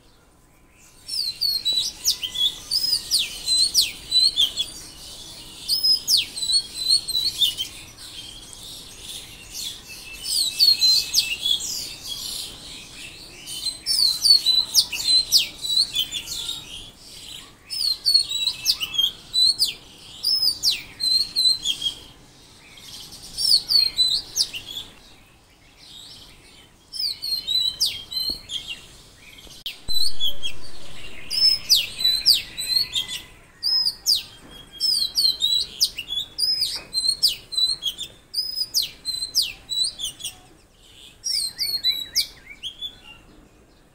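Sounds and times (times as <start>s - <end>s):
birds chirping and twittering: 0.0s - 43.9s.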